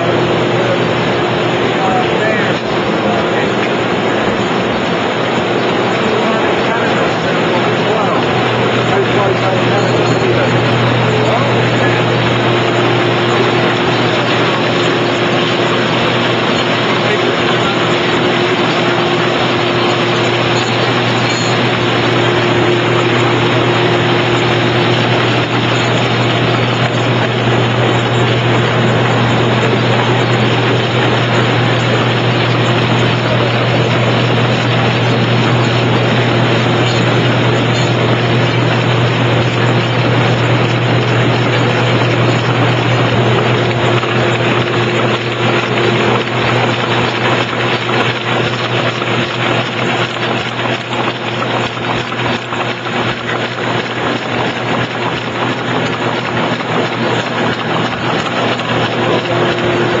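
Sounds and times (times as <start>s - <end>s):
cutting machine droning: 0.0s - 60.0s.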